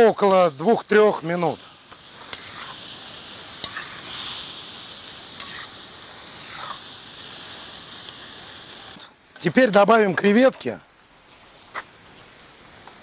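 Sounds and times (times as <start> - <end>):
food sizzling in a pot: 0.0 - 10.8, 11.4 - 13.0.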